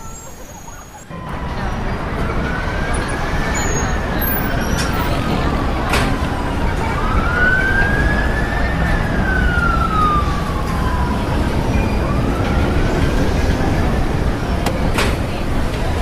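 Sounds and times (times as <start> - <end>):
siren wailing: 0.0 - 13.7
city road traffic rumble: 0.0 - 16.0.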